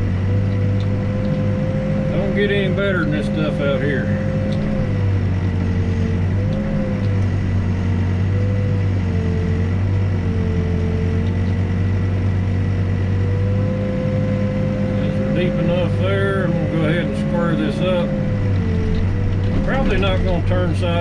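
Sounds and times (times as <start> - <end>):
diesel engine running: 0.0 - 21.0
hydraulic whine changing pitch: 0.0 - 21.0.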